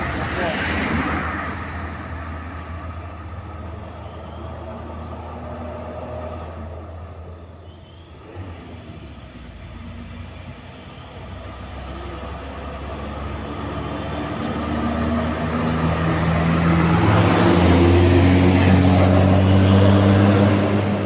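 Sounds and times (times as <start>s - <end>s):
heavy vehicle engine droning: 0.0s - 21.0s.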